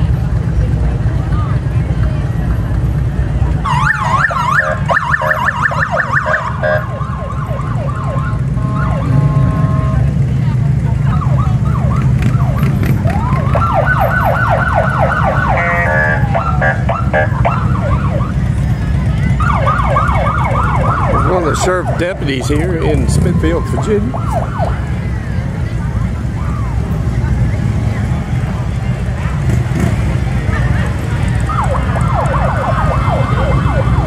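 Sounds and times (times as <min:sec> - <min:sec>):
motorcycle engines running: 0:00.0 - 0:34.0
police motorcycle sirens: 0:00.0 - 0:34.0.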